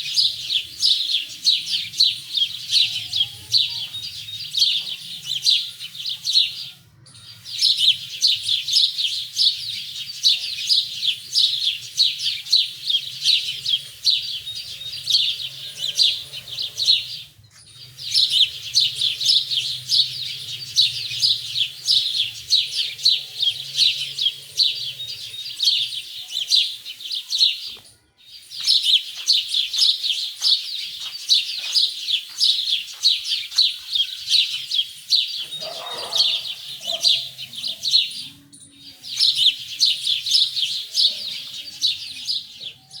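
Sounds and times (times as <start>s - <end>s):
small birds twittering: 0.0s - 43.0s.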